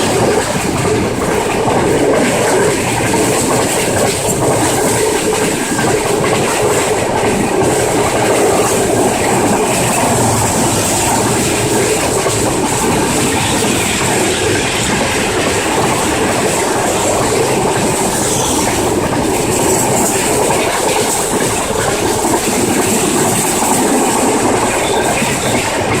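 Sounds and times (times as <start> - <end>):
train rolling on track: 0.0 - 26.0.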